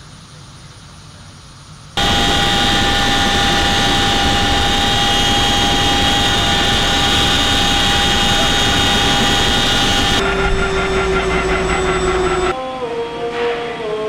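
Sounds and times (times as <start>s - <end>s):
helicopter engine and rotor noise: 0.0s - 12.6s
steady high whine: 0.0s - 13.0s.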